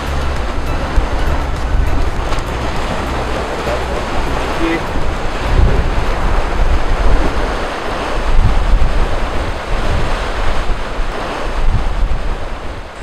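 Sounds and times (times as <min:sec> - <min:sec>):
ocean surf: 0:00.0 - 0:13.0
wind buffeting microphone: 0:00.0 - 0:13.0.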